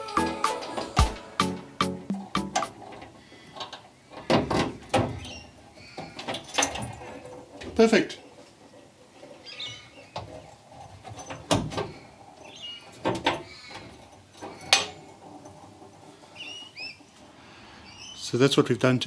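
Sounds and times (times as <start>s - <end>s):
birds chirping: 0.0s - 18.5s.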